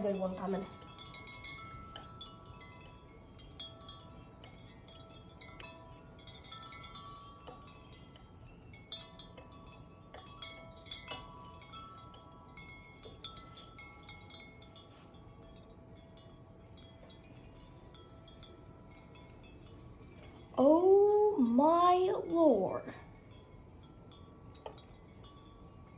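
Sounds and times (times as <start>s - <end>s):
metal wind chimes ringing: 0.0s - 25.9s.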